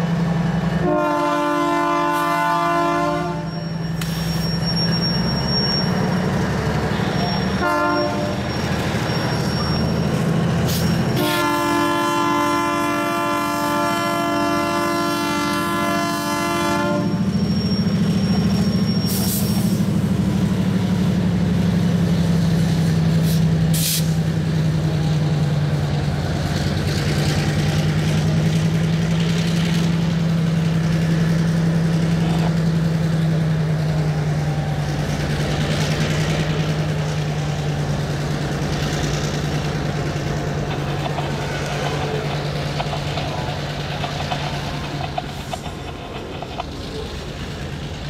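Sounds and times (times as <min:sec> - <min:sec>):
diesel locomotive engine drone: 0:00.0 - 0:48.0
freight cars rolling: 0:03.3 - 0:13.8, 0:14.4 - 0:48.0.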